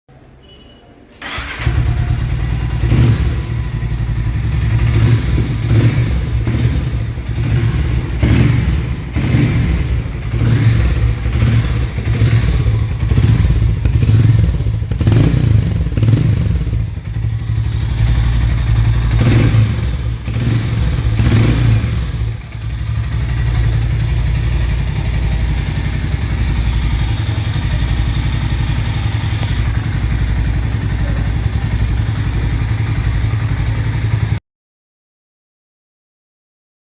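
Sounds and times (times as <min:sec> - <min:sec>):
motorcycle engine revving: 0:01.2 - 0:34.4.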